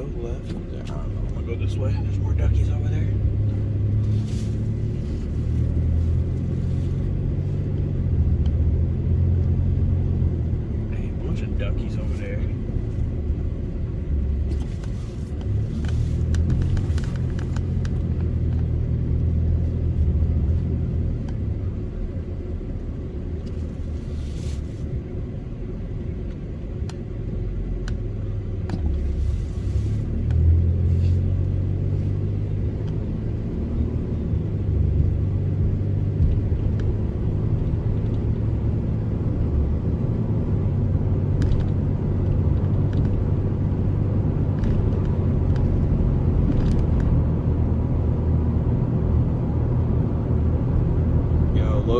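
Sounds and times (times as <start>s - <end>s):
truck engine and road rumble: 0.0s - 51.9s.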